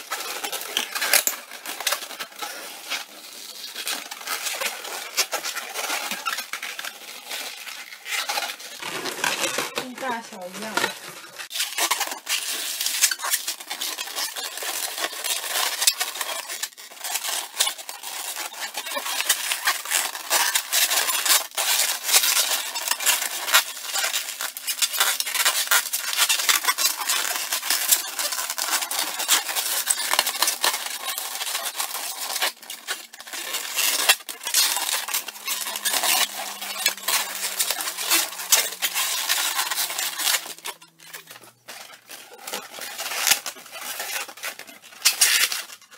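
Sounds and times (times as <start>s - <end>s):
balloons being twisted and squeaking: 0.0s - 45.9s.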